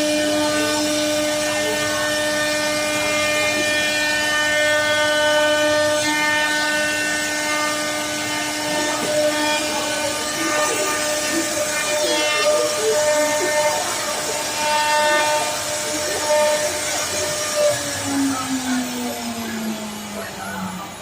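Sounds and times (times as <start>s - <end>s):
bit cutting into wood: 0.0s - 21.0s
router spindle whining: 0.0s - 21.0s.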